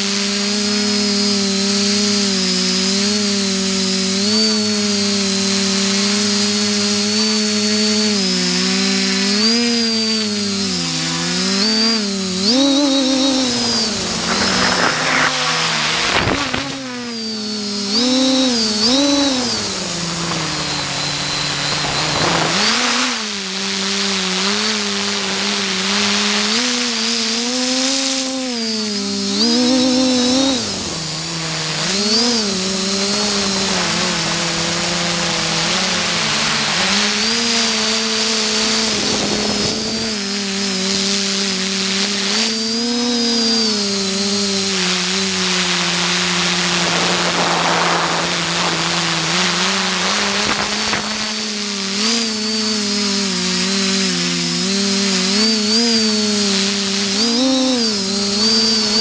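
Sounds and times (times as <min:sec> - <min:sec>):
drone propellers buzzing whine: 0:00.0 - 0:59.0.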